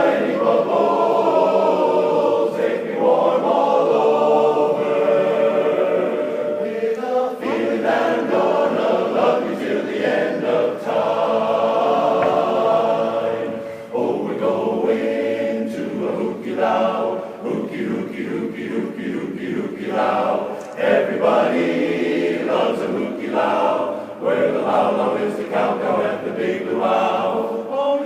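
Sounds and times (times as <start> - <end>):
choir singing in harmony: 0.0 - 28.0.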